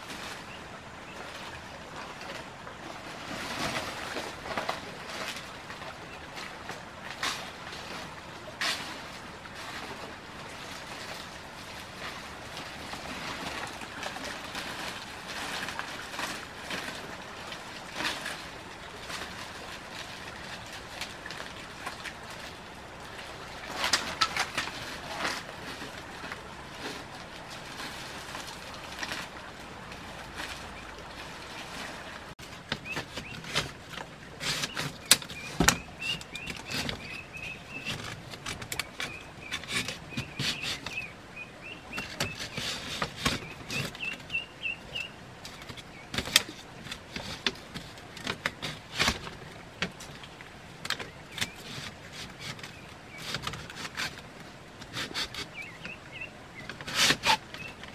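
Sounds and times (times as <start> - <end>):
dry palm fronds rustling: 0.0 - 57.9.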